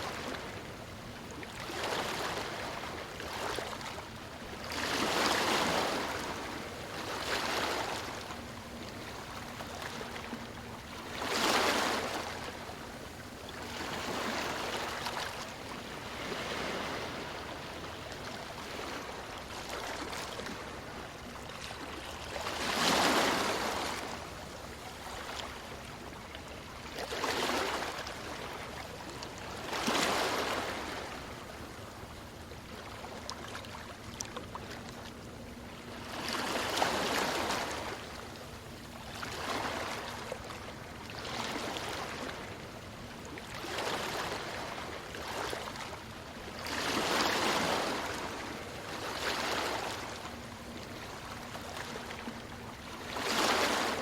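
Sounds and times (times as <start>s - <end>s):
steady water noise: 0.0s - 54.0s.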